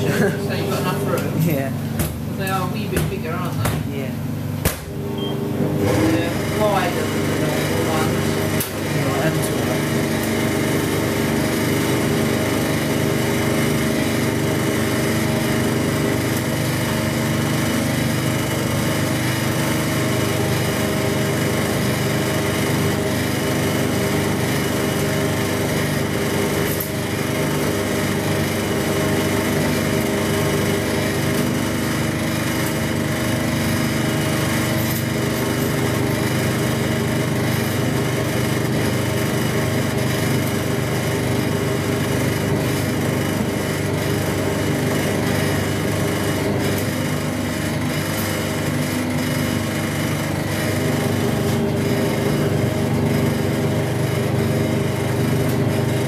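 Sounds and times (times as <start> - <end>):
washing machine motor hum: 0.0 - 56.0
water churning in drum: 5.8 - 56.0.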